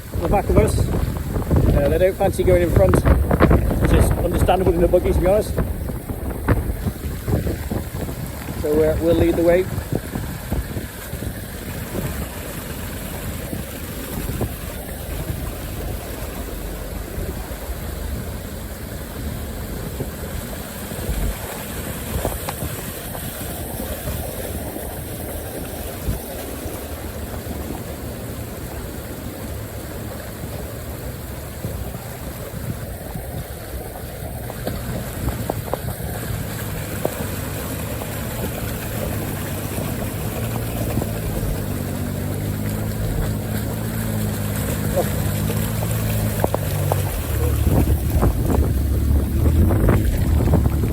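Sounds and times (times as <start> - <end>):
off-road vehicle engine: 0.0 - 50.9
steady rushing noise: 0.0 - 50.9.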